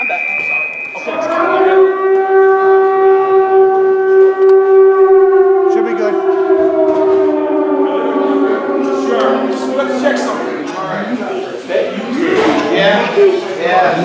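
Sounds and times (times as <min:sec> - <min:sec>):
siren-like wail: 0:00.0 - 0:13.2.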